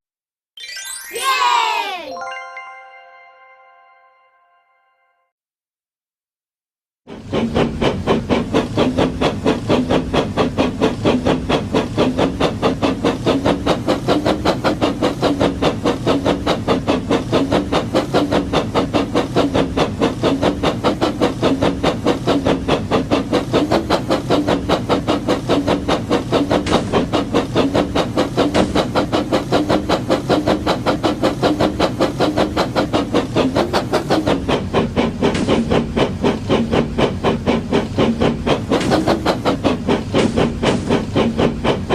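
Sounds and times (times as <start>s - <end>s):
toy train chuffing: 7.1s - 41.9s.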